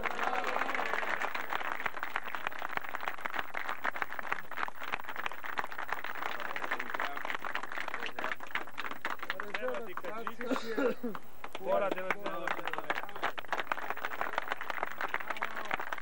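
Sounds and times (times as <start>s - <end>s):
people applauding: 0.0s - 16.0s.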